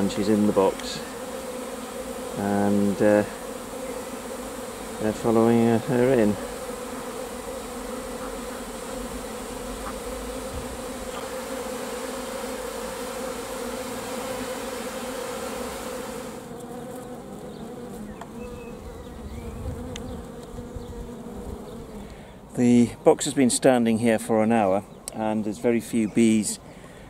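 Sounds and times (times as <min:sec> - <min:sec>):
honey bees buzzing: 0:00.0 - 0:27.0.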